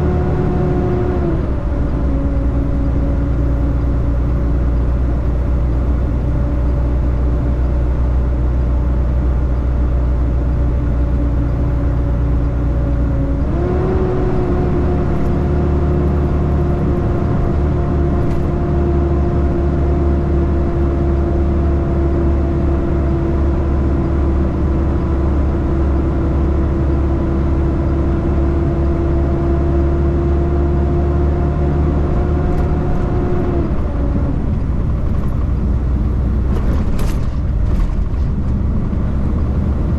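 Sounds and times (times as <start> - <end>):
truck engine drone with whine: 0.0 - 39.9.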